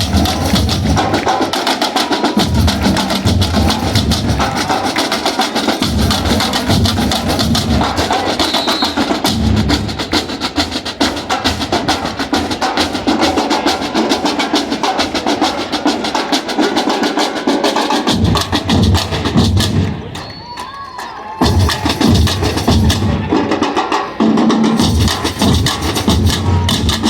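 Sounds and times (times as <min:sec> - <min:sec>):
samba drum ensemble: 0:00.0 - 0:27.0.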